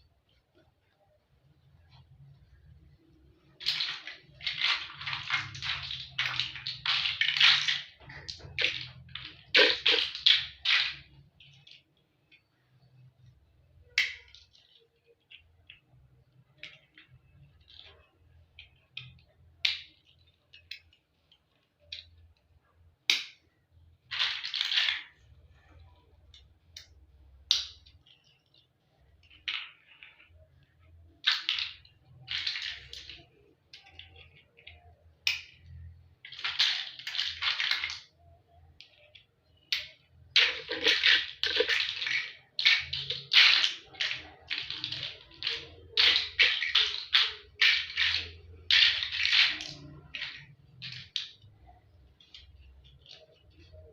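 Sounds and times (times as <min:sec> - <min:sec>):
toy blocks clicking and rattling: 0:01.8 - 0:53.9.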